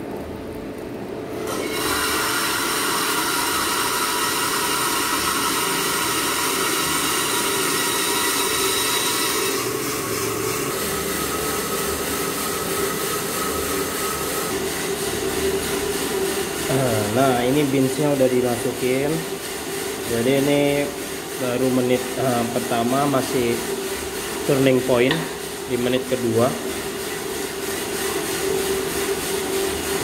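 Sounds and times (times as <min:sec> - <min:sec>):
coffee roaster hum: 0:00.0 - 0:30.0.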